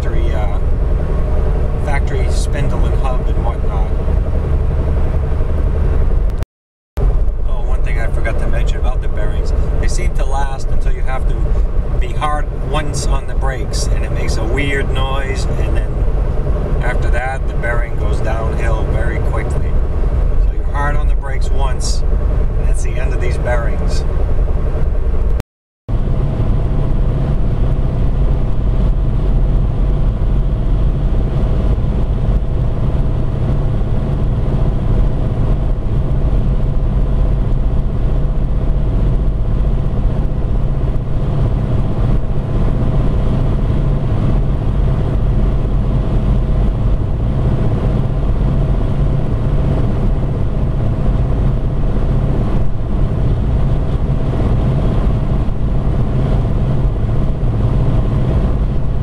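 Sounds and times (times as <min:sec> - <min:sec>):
car cabin highway drone: 0:00.0 - 0:06.4, 0:07.0 - 0:59.0.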